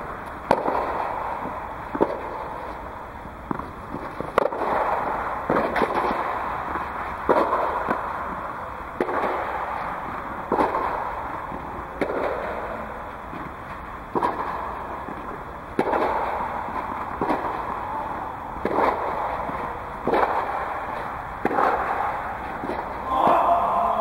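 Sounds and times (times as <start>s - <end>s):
tennis balls struck by racquets: 0.3s - 2.8s, 3.4s - 12.7s, 13.3s - 23.4s
tennis balls bouncing on court: 0.4s - 2.6s, 3.4s - 12.7s, 14.1s - 23.4s.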